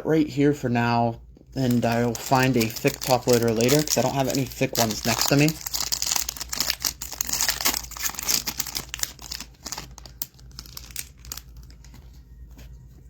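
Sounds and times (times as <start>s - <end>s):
card pack wrapper crinkling: 1.6s - 12.2s.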